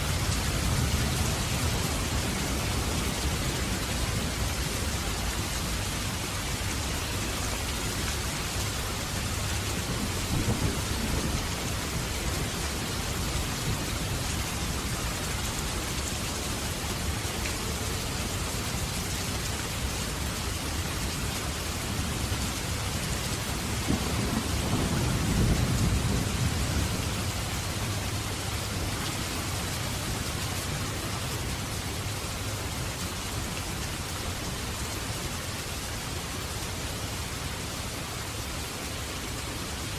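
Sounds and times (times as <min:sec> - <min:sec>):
rushing hiss like heavy rain: 0:00.0 - 0:39.9.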